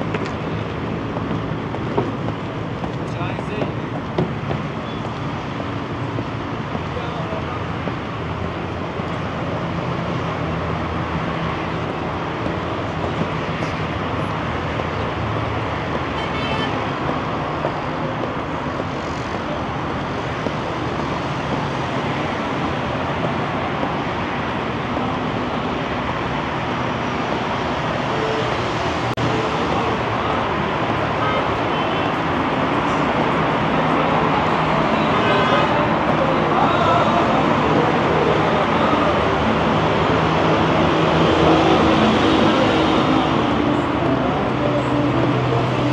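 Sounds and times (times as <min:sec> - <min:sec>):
expressway traffic: 0:00.0 - 0:45.9.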